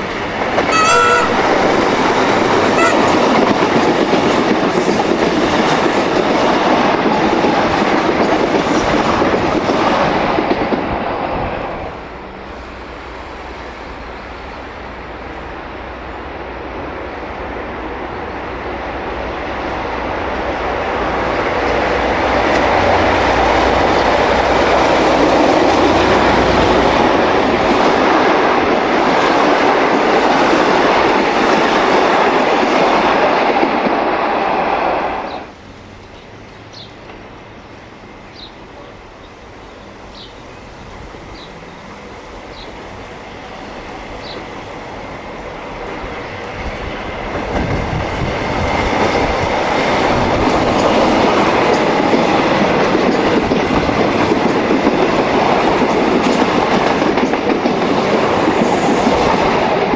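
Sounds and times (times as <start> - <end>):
electric train passing: 0.0 - 59.9
train carriages running on rails: 0.0 - 59.9.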